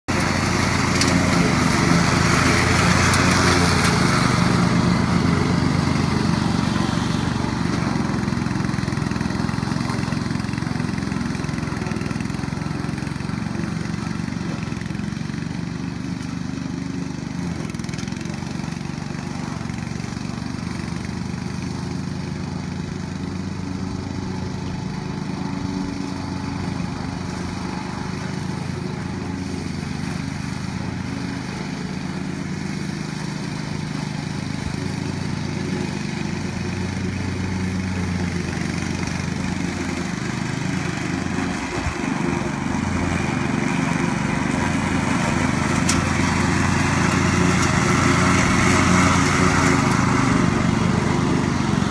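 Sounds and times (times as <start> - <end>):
riding lawn mower engine running: 0.0 - 51.9.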